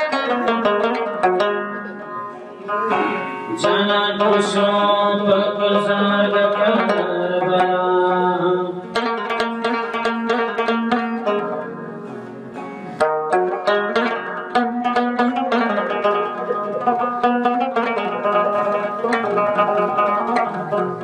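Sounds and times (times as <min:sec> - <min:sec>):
plucked lute music: 0:00.0 - 0:21.0.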